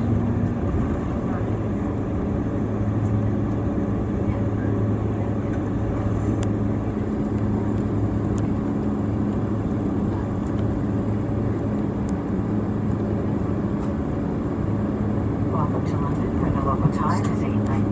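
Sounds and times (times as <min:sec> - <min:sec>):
jet engines humming at low power: 0:00.0 - 0:17.9.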